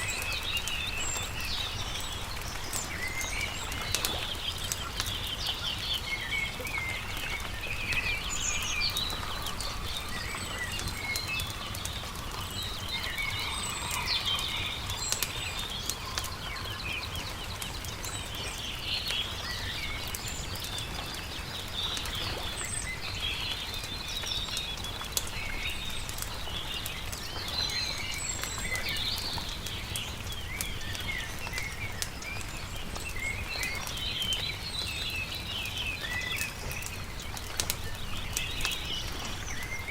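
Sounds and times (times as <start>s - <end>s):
campfire crackling: 0.0s - 39.9s
songbirds chirping: 0.0s - 39.9s.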